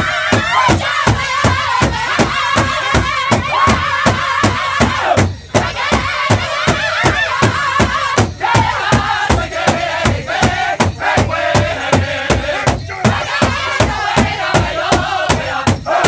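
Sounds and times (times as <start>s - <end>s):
group singing in unison: 0.0s - 16.0s
large drum beating: 0.0s - 16.0s.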